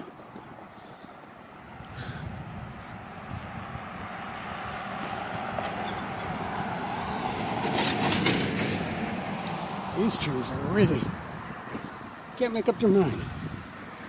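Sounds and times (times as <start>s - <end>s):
vehicle passing on street: 0.0s - 14.0s.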